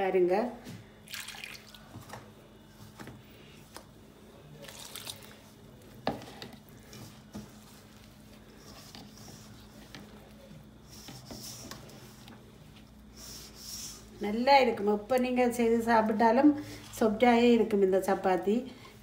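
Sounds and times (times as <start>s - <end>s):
hand kneading dough: 1.5s - 19.0s.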